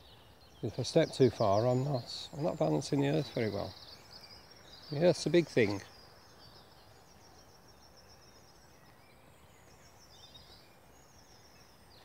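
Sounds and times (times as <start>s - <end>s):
faint high-pitched birdsong: 0.0s - 12.0s.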